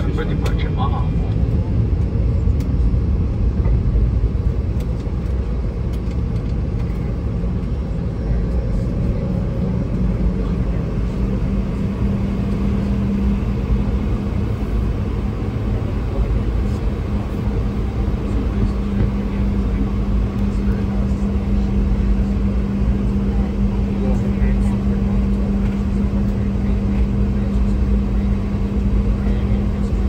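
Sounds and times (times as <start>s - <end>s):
jet engines low rumble: 0.0s - 30.0s
steady hum: 0.0s - 30.0s.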